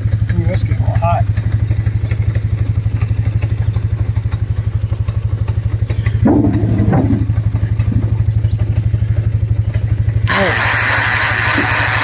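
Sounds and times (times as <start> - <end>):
four-wheeler engine idling: 0.0 - 12.0.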